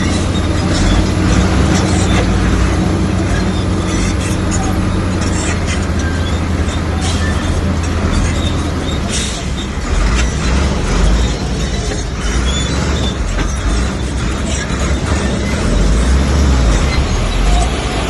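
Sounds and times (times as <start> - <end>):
bulldozer diesel engine rumble: 0.0 - 18.0
machine clanks and rattles: 0.0 - 18.0.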